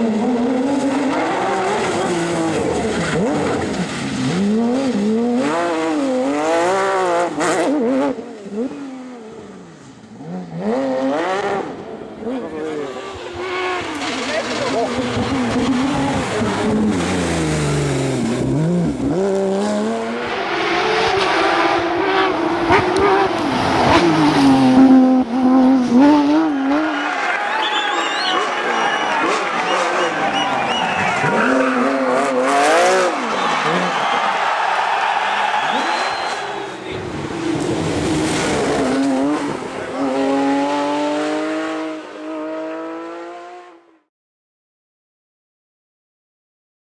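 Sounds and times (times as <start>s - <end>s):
rally car engine accelerating: 0.0s - 44.0s.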